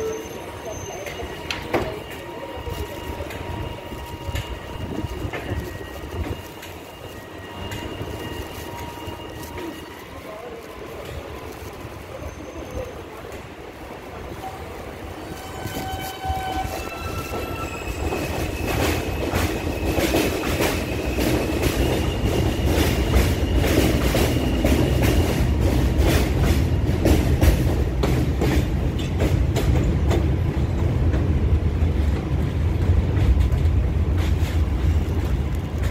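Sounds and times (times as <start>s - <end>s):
subway train motors whining: 0.0s - 35.9s
train rumble: 0.0s - 35.9s.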